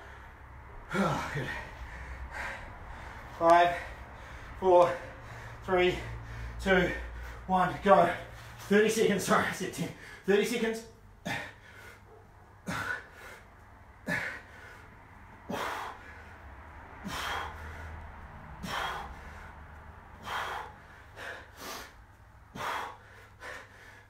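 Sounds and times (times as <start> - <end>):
man breathing hard: 0.0 - 10.3, 11.2 - 24.0.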